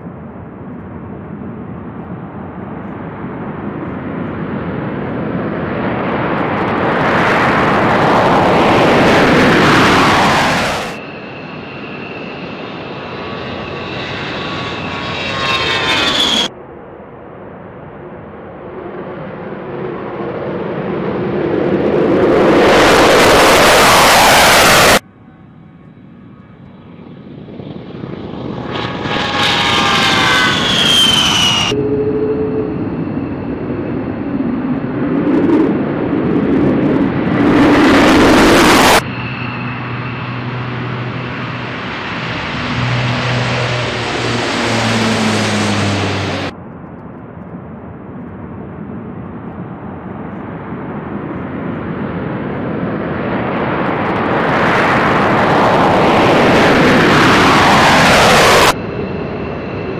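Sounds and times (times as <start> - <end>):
jet engine whine sliding down: 0.0 - 16.8, 17.4 - 59.9
jet aircraft taking off: 0.0 - 59.9.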